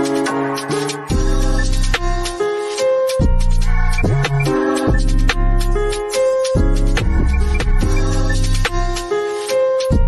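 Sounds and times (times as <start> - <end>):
beat-driven instrumental music: 0.0 - 10.0.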